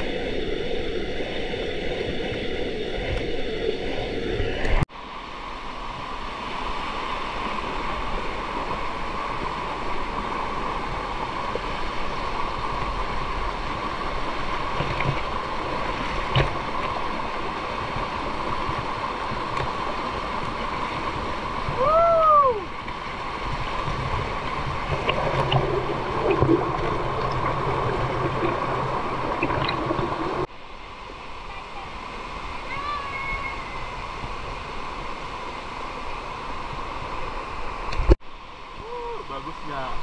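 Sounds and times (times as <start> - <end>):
waterfall rushing and splashing: 2.0 - 40.0.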